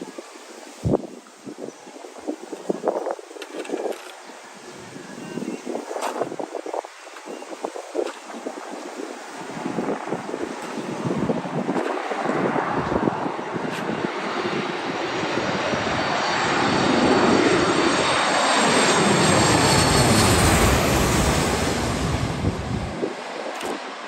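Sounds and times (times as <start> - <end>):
airliner passing overhead: 0.0 - 24.0.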